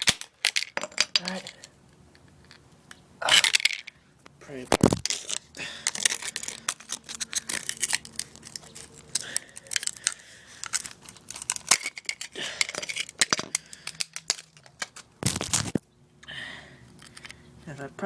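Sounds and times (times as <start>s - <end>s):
crackling and clicking battery: 0.0s - 15.8s.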